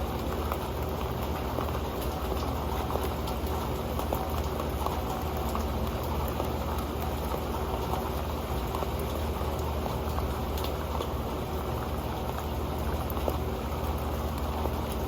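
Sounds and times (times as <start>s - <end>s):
rain ticking on metal pan: 0.0s - 15.0s.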